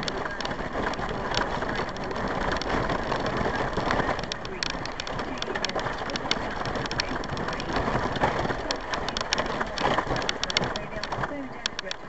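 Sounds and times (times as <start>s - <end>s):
clicks and rattles: 0.0s - 12.0s
vehicle interior rush: 0.0s - 12.0s.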